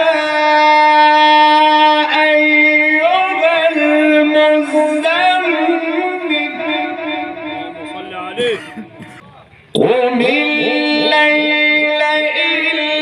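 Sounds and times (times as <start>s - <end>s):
man reciting melodically over loudspeakers: 0.0s - 13.0s.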